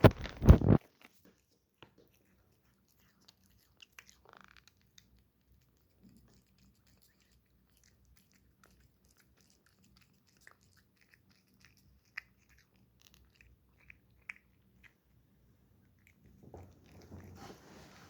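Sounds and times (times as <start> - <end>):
cat chewing: 0.0 - 18.0.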